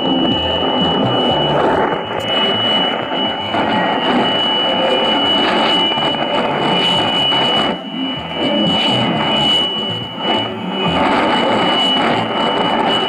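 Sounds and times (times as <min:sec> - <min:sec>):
shortwave radio static: 0:00.0 - 0:13.0
steady high whistle: 0:00.0 - 0:13.0
weak radio broadcast: 0:00.0 - 0:13.0.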